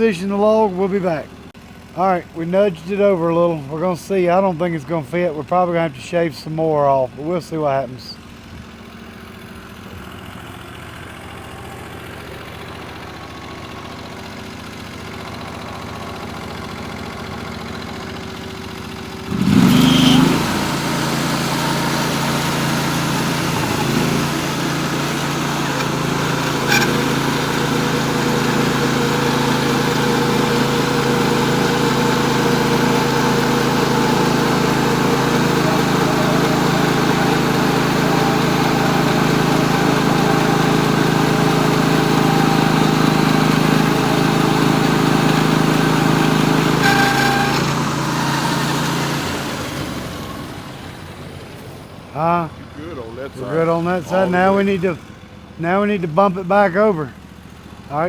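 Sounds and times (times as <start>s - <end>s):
sawmill engine idling and revving: 0.0s - 58.0s.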